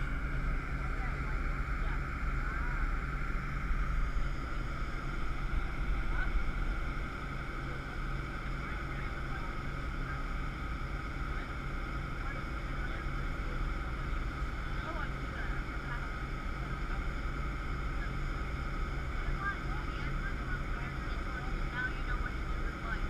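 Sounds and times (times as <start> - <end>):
boat engine rumbling: 0.0 - 23.0
faint passenger chatter: 0.0 - 23.0.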